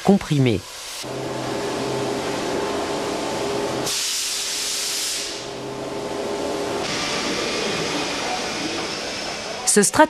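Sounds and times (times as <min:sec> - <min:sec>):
compressed air hissing: 0:00.7 - 0:09.7
steady low hum: 0:01.0 - 0:09.7.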